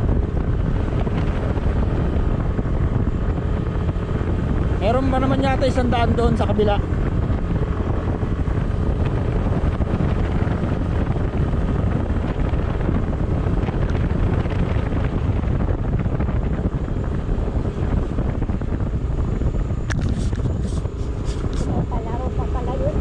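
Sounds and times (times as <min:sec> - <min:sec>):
vehicle rumbling on road: 0:00.0 - 0:23.0
wind noise on microphone: 0:00.0 - 0:23.0.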